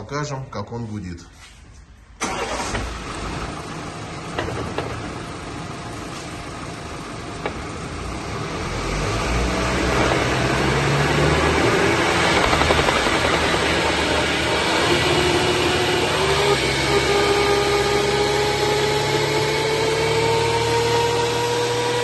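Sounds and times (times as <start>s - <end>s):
car differential humming: 2.2s - 22.0s.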